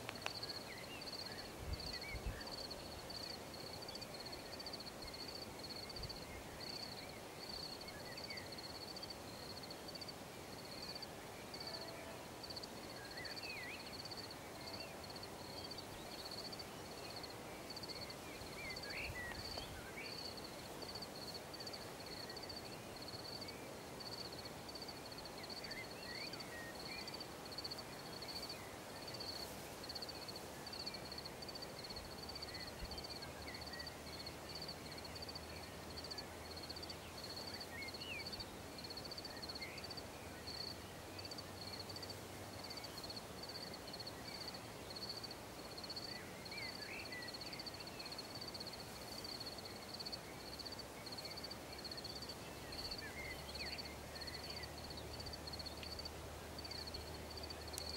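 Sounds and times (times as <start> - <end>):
crickets chirping: 0.0 - 57.9
low hiss of night background: 0.0 - 57.9.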